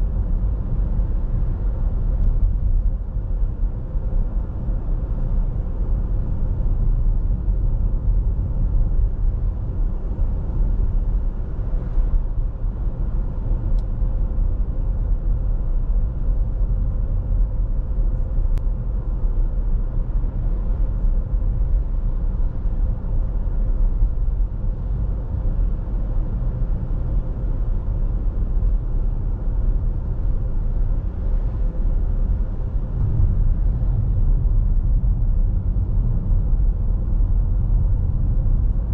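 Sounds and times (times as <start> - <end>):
car driving on paved road: 0.0 - 38.9.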